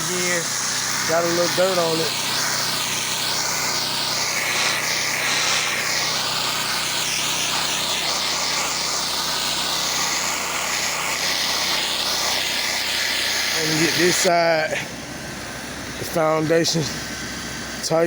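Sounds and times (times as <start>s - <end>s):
high-pressure water spray hissing: 0.0s - 18.0s
pressure washer engine humming: 0.0s - 18.0s.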